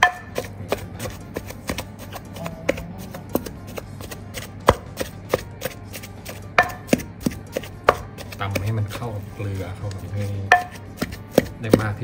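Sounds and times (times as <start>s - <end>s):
pestle pounding in mortar: 0.0s - 12.0s.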